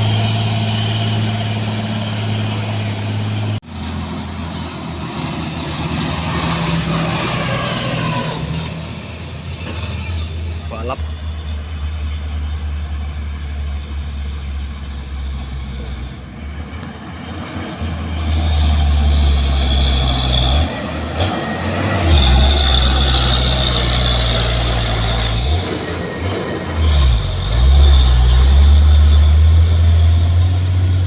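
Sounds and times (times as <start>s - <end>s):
truck diesel engine under load: 0.0s - 31.0s.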